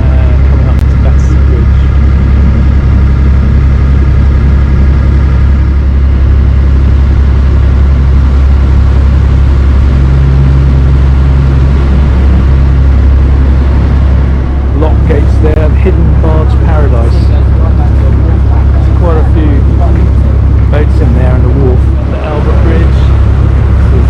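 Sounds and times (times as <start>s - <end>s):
boat engine low drone: 0.0s - 24.0s
even hum: 0.0s - 24.0s.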